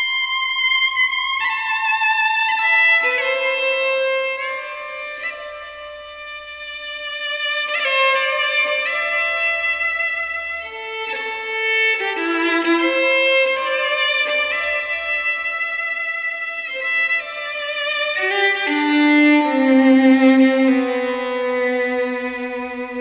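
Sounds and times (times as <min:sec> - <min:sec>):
solo fiddle playing slow tune: 0:00.0 - 0:23.0.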